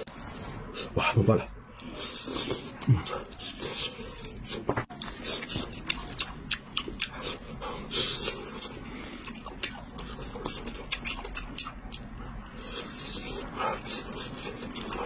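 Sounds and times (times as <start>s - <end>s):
person chewing crispy food: 1.8s - 15.0s.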